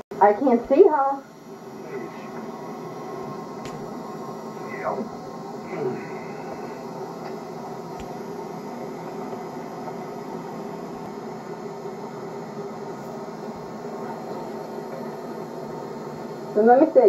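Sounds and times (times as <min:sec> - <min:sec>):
camcorder hiss and hum: 0:00.2 - 0:17.0.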